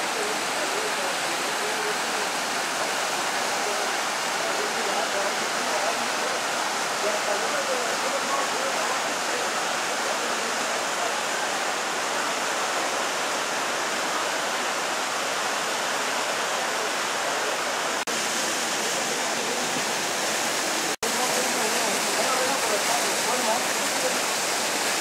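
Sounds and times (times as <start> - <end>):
river rushing over boulders: 0.0 - 25.0.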